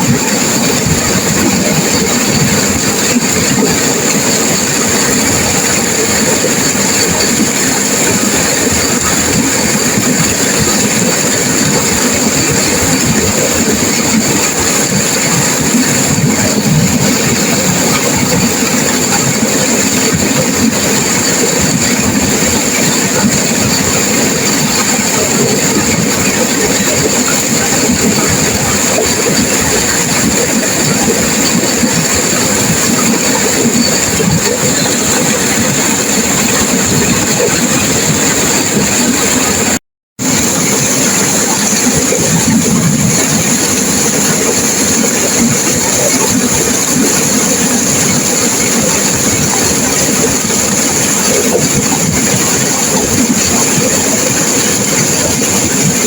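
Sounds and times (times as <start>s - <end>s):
turbulent river water rushing: 0.0s - 56.0s.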